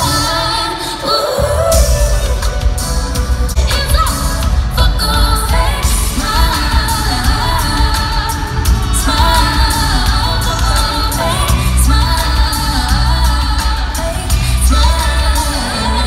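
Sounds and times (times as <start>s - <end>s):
pop backing track with heavy bass: 0.0s - 16.0s
woman singing: 0.0s - 16.0s.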